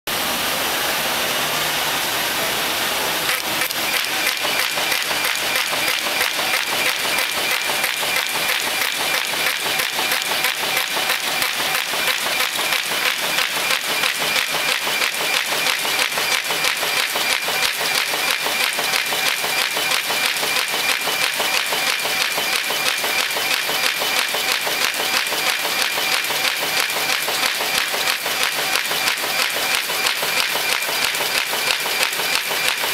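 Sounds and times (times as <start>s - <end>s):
paper folding machine clatter: 3.1s - 32.9s.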